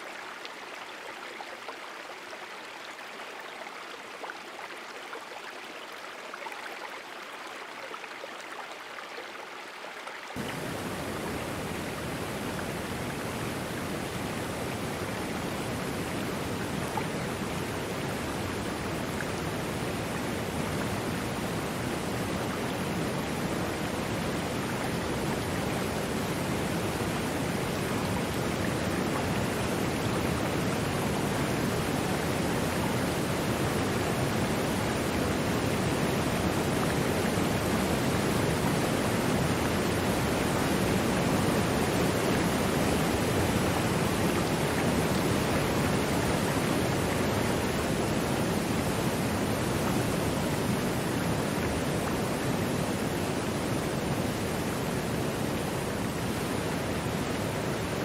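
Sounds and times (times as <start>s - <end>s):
waterfall rushing: 10.4s - 58.0s.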